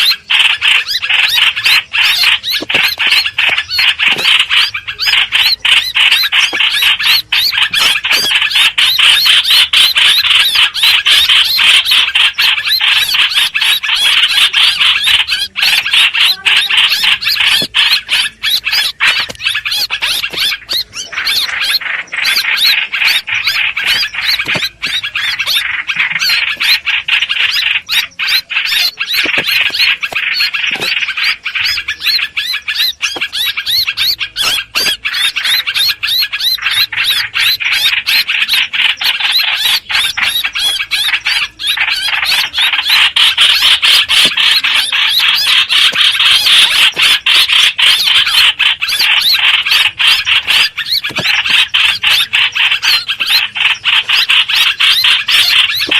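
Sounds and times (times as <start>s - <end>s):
bird squealing calls: 0.0s - 55.9s.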